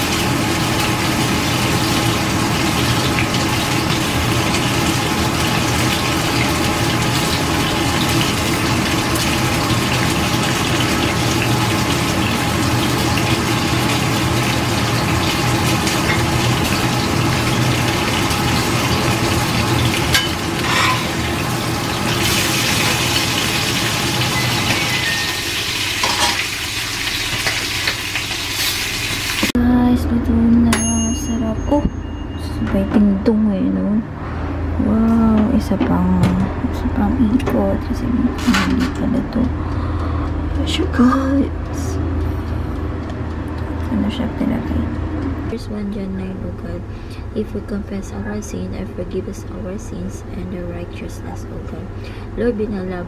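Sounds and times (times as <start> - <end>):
water heating on stovetop: 0.0 - 29.6, 34.8 - 53.0.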